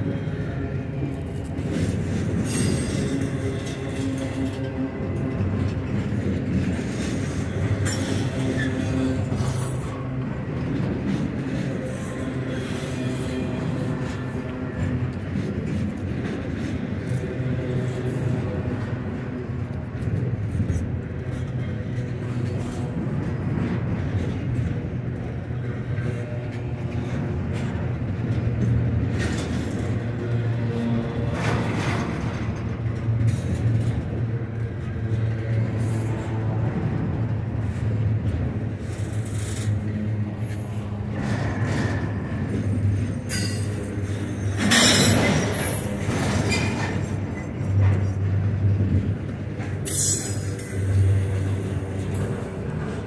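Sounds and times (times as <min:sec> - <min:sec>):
freight train rumbling: 0:00.0 - 0:53.0.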